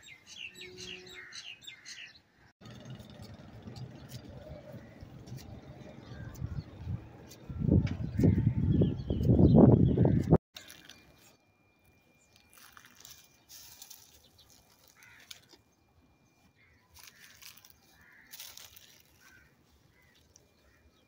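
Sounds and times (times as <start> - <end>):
distant bird calls: 0.0 - 11.4, 13.3 - 21.0.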